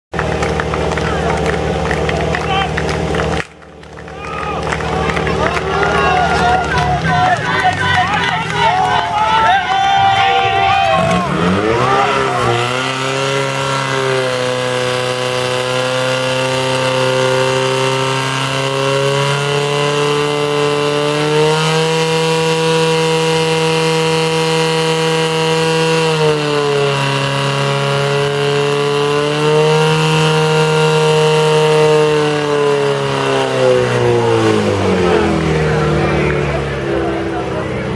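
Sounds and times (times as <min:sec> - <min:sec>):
pump engine revving: 0:00.1 - 0:37.9.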